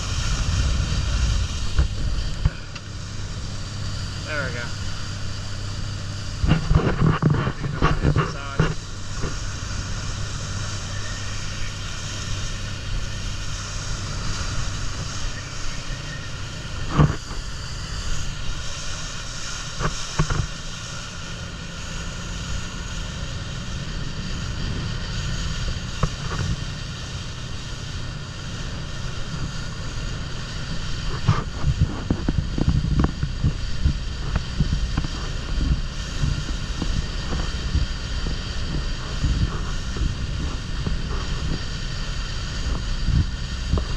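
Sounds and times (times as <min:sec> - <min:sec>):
motorboat engine running: 0:00.0 - 0:43.9
wind buffeting microphone: 0:00.0 - 0:43.9.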